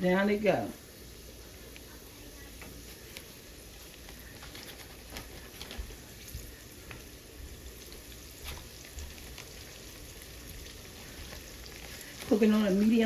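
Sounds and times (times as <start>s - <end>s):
chicken deep-frying sizzle and pops: 0.0s - 13.0s.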